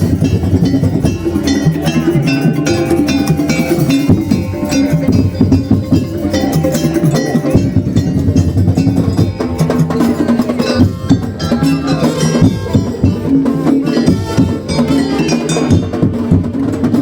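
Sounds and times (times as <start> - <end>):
melody of held notes: 0.0 - 16.7
quick drum and knocking percussion: 0.0 - 17.0.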